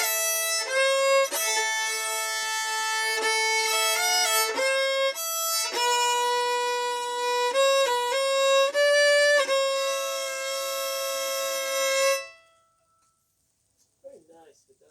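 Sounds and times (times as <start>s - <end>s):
bowed fiddle playing: 0.0s - 12.6s.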